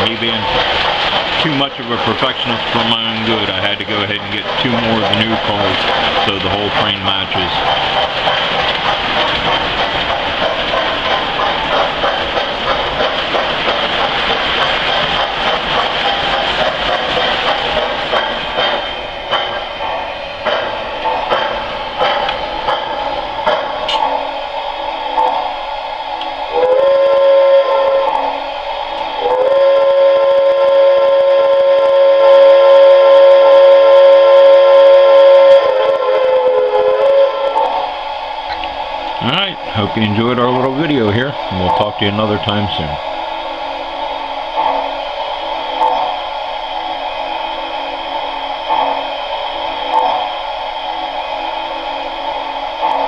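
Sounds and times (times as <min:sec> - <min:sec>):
steam locomotive whistle: 0:00.0 - 0:22.6, 0:25.4 - 0:53.0
wheels clicking over track: 0:00.0 - 0:26.9, 0:35.4 - 0:53.0
model train rolling: 0:00.0 - 0:53.0.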